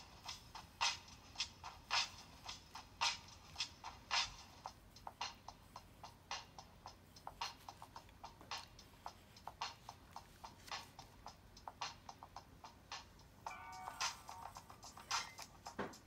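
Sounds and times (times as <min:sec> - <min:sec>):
rhythmic ticking: 0:00.0 - 0:16.0.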